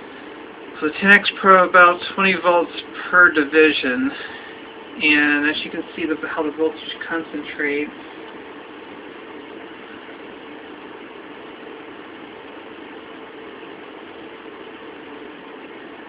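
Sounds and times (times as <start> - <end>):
electronic equipment hum and hiss: 0.0 - 16.0.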